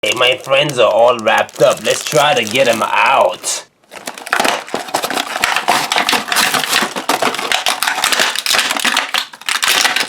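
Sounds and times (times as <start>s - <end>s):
wrapping crinkling and tearing: 0.0s - 10.0s.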